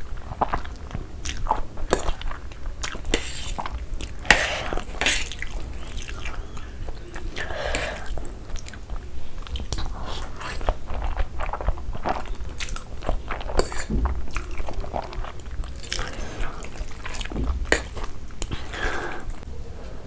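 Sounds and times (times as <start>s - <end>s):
person chewing with mouth clicks: 0.0s - 19.4s.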